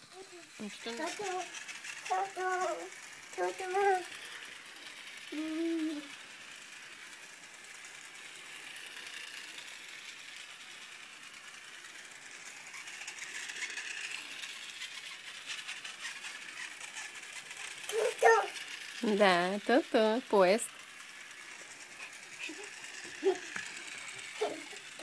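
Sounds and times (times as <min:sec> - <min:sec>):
toy train motor whirr: 0:00.0 - 0:25.0
wheels clicking and rattling: 0:00.0 - 0:25.0.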